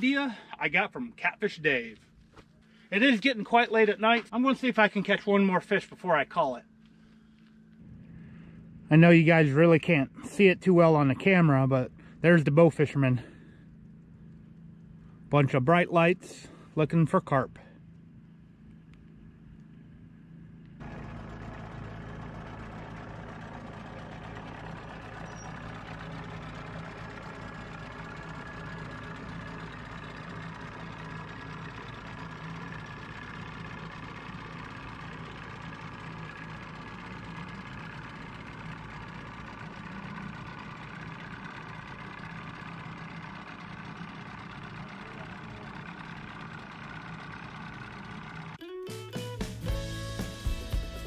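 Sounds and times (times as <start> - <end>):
engine idling: 0.0 - 51.0.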